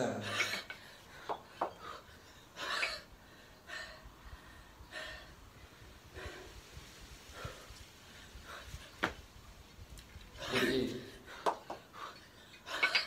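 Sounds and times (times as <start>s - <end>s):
person breathing hard: 0.8s - 9.0s, 10.4s - 13.0s.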